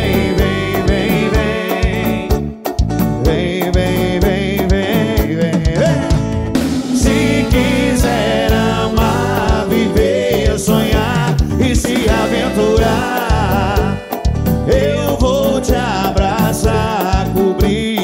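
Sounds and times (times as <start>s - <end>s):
band music with drums and bass: 0.0s - 18.0s.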